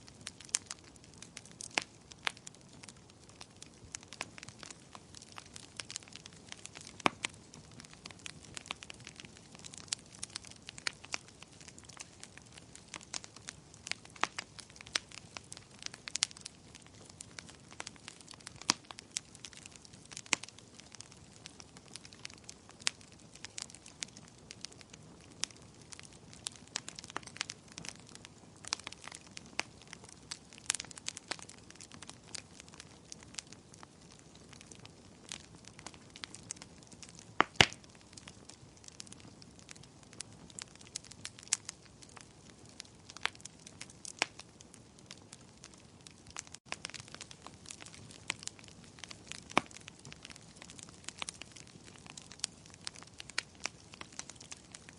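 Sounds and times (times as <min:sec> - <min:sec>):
soft steady hiss: 0:00.0 - 0:54.9
wood fire crackling: 0:00.0 - 0:54.9.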